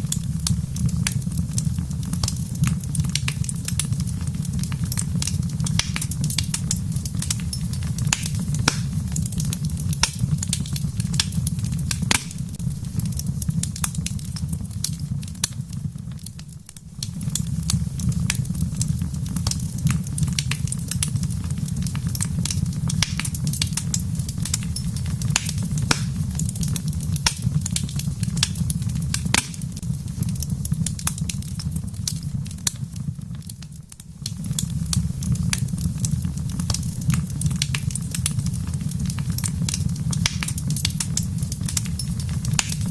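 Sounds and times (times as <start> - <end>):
fire popping and snapping: 0.0 - 42.9
wood fire crackling: 0.0 - 42.9.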